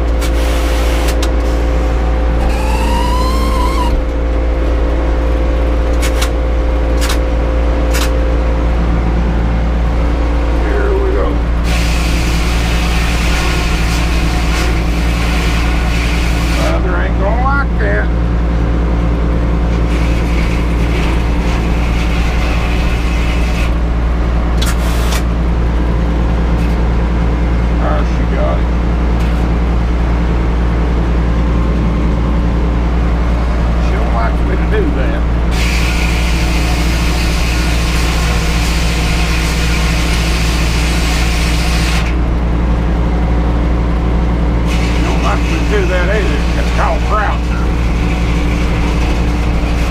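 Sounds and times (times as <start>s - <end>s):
engine running with low pulsing: 0.0s - 49.9s.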